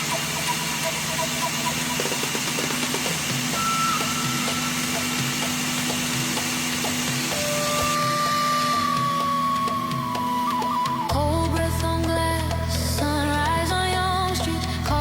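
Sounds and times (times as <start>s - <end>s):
printer fan hiss and hum: 0.0s - 15.0s
stepper motors whining: 0.0s - 15.0s.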